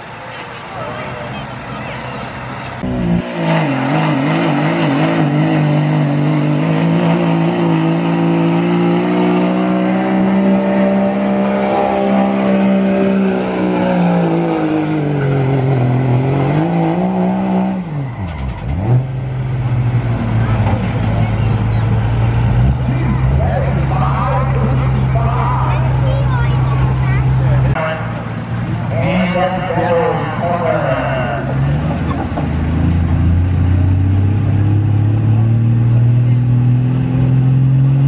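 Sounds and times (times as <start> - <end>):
diesel engine at full throttle: 0.0 - 38.0.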